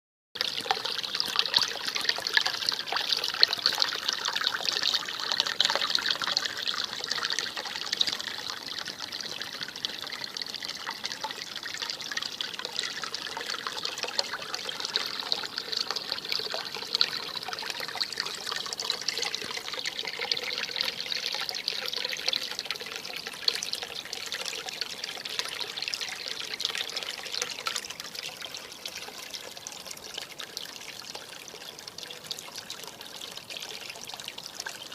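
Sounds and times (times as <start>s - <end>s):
stream babbling over stones: 0.4s - 34.9s.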